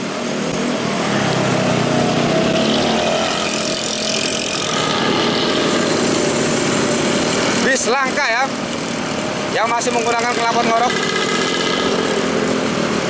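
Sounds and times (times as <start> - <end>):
bus engine with rasping exhaust: 0.0 - 13.0.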